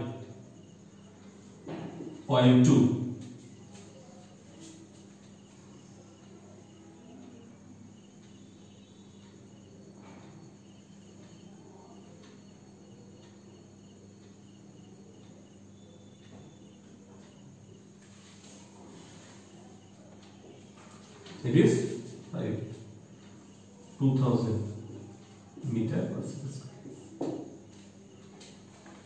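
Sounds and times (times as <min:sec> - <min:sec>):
crickets chirping: 0:00.0 - 0:29.0
low electrical hum: 0:00.0 - 0:29.0.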